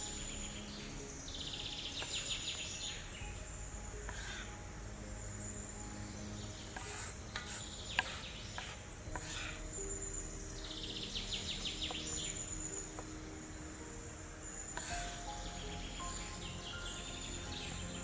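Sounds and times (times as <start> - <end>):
birds chirping: 0.0 - 18.0
high insect drone: 0.0 - 18.0.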